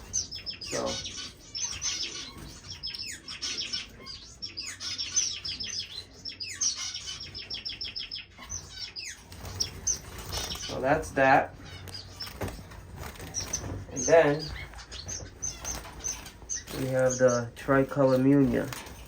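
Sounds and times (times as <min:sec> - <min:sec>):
finches chirping: 0:00.0 - 0:19.0.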